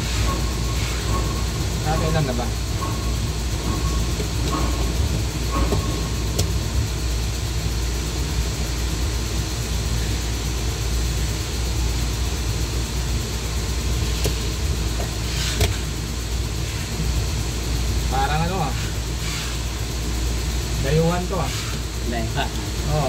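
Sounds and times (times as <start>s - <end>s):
low rumble with hiss: 0.0s - 23.0s.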